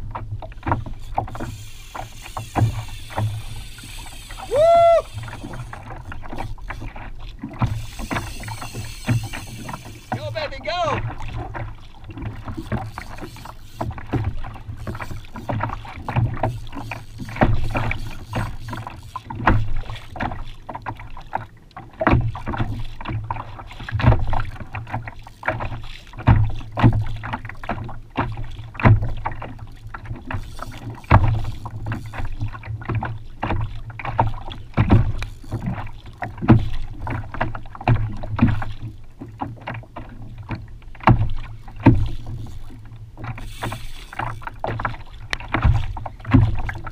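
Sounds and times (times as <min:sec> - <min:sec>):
knocks and splashes: 0:00.0 - 0:46.9
water slapping against kayak hull: 0:00.0 - 0:46.9.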